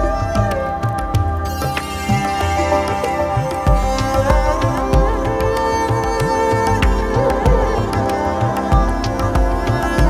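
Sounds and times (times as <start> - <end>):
plucked strings: 0.0 - 10.0
steady drone: 0.0 - 10.0.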